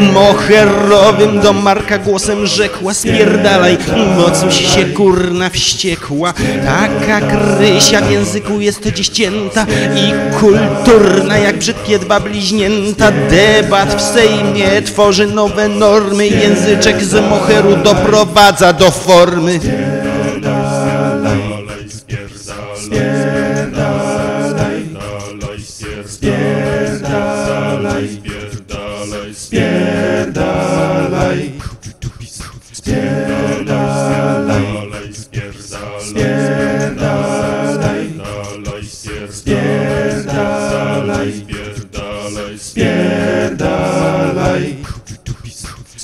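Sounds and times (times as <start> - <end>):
voices singing in harmony: 0.0 - 46.0.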